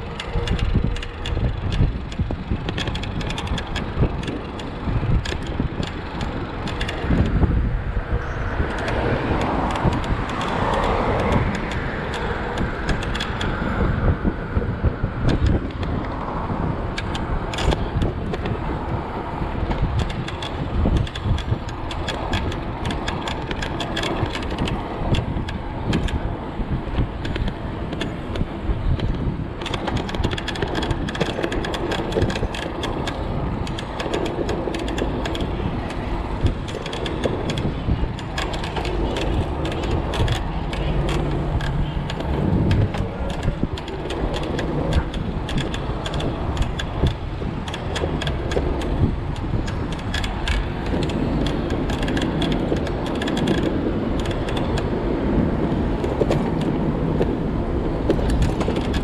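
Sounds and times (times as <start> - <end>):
bike rattling and clicking: 0.0 - 59.0
car traffic: 0.0 - 59.0
wind and road rumble: 0.0 - 59.0.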